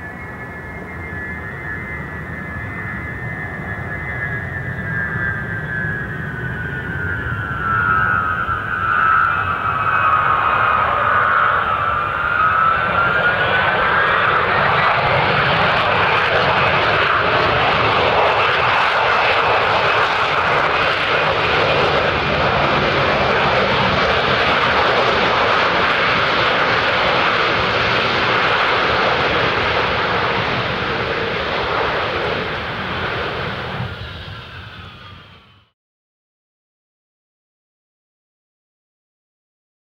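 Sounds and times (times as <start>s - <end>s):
jet engines whining: 0.0s - 35.7s
jet engine roar: 0.0s - 35.8s.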